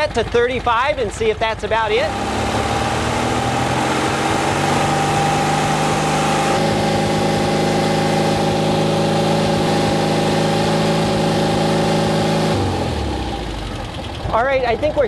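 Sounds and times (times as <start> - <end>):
engine running at raised speed: 0.0 - 15.0.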